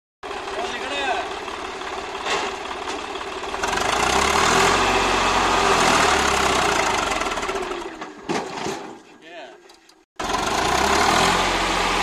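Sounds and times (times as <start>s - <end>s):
tractor diesel engine revving: 0.2s - 8.2s, 10.2s - 12.0s.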